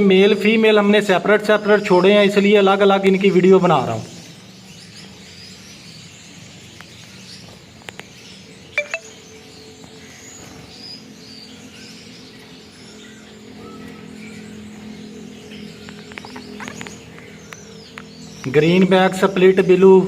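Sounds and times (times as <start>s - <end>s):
finches chirping: 1.4s - 20.0s.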